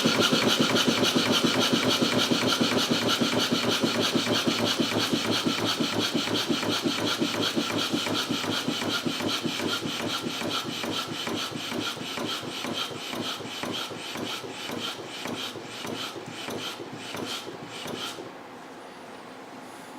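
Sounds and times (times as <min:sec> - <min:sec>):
steam engine chuffing: 0:00.0 - 0:18.2.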